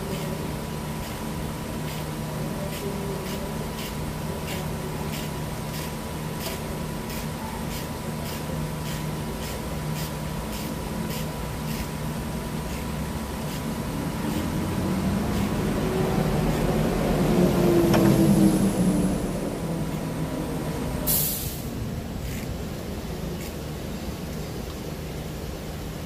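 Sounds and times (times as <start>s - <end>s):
low workshop hum: 0.0s - 26.0s.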